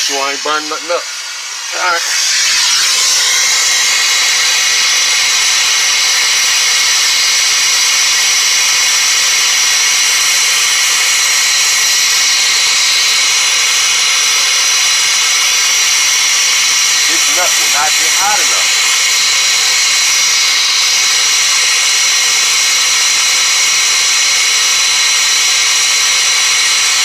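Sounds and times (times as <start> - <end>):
blow torch hissing: 0.0 - 27.0.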